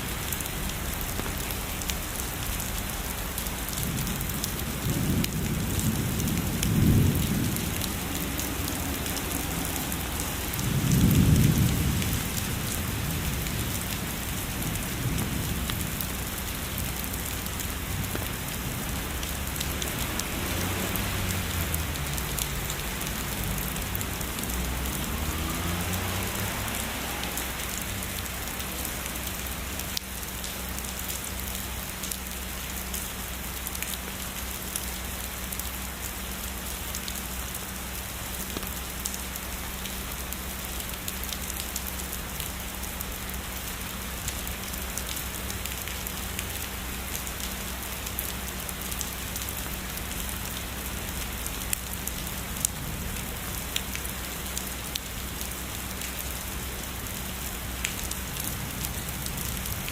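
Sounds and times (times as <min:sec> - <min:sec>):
heavy rain hissing: 0:00.0 - 0:59.9
raindrop ticks: 0:00.0 - 0:59.9.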